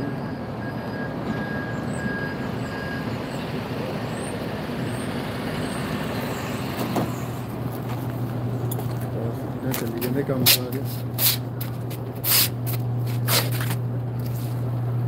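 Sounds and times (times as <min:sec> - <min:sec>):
low engine hum: 0:00.0 - 0:15.0
rumble of street traffic: 0:00.0 - 0:15.0.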